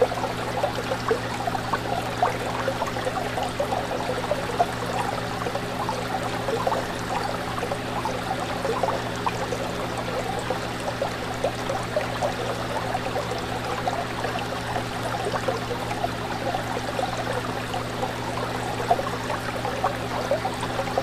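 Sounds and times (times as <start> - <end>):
pump humming: 0.0 - 21.0
water bubbling and trickling: 0.0 - 21.0.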